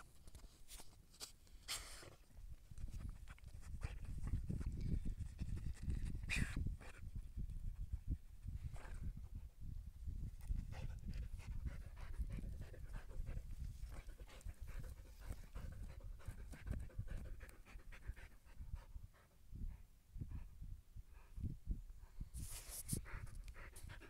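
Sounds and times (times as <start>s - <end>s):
dog panting and snuffling: 1.6s - 9.4s, 10.4s - 21.4s, 22.1s - 24.0s.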